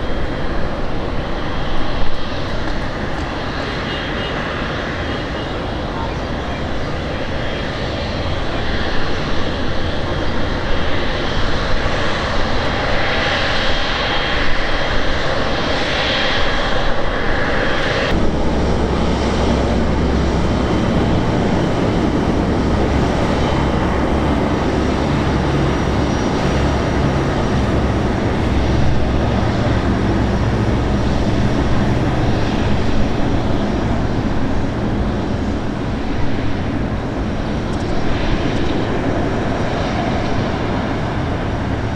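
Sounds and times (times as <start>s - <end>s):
jet engines whining: 0.0s - 41.9s.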